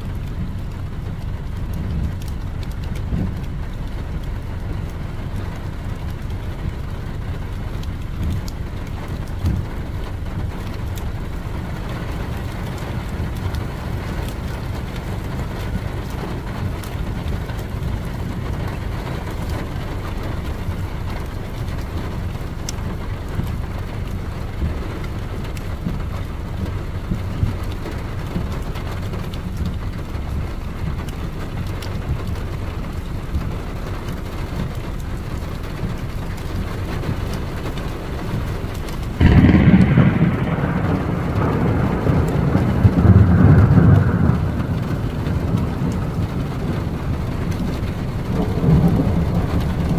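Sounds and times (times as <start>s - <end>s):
car driving on wet road: 0.0s - 49.9s
raindrops ticking: 0.0s - 49.9s.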